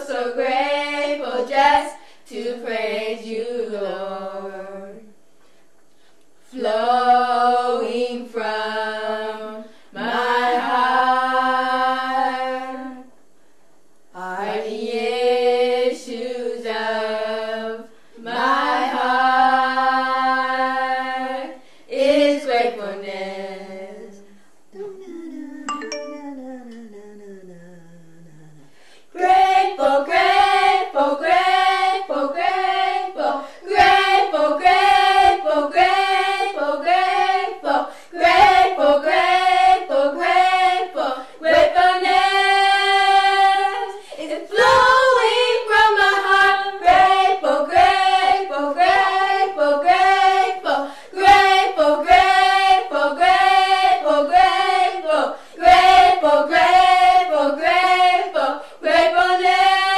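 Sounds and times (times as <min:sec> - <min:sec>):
woman singing worship song: 0:00.0 - 0:05.2, 0:06.4 - 0:13.1, 0:14.1 - 0:59.9.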